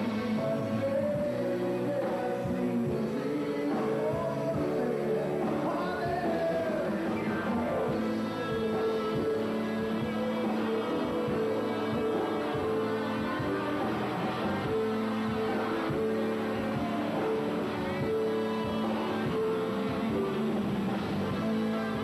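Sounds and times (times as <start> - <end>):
gliding melodic lead line: 0.0 - 22.0
live rock band playing: 0.0 - 22.0.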